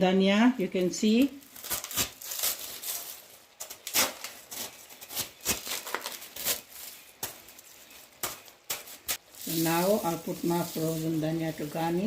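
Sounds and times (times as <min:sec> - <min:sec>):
plastic bag crinkling: 0:01.1 - 0:12.0.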